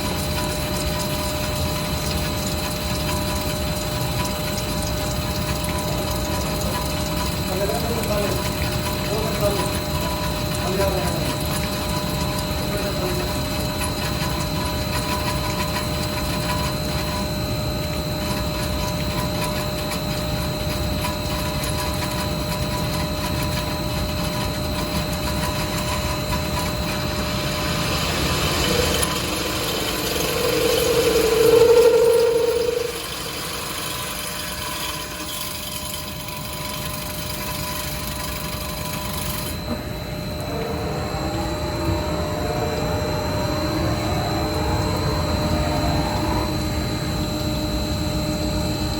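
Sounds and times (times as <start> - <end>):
machine mechanical hum: 0.0 - 48.9
machine whining tones: 0.0 - 48.9.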